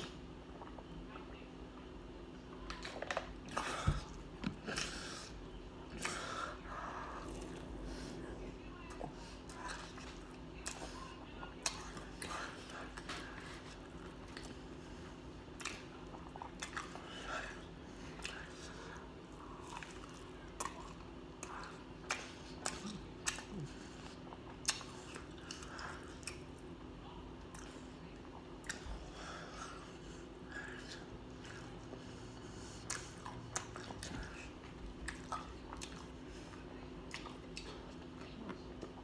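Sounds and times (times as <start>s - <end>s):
person chewing with wet smacks: 0.0s - 8.2s, 8.8s - 39.0s
steady low hum: 0.0s - 39.0s.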